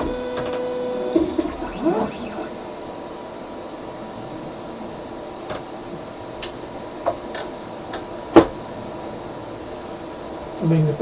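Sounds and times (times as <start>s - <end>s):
printer fans humming: 0.0s - 11.0s.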